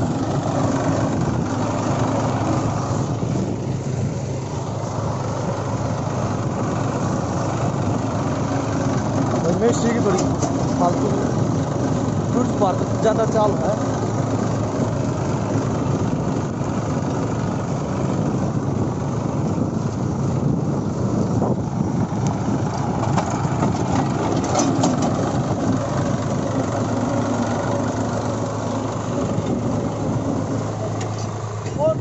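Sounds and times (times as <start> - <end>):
second tractor engine running: 0.0 - 32.0
tractor diesel engine running: 0.0 - 32.0.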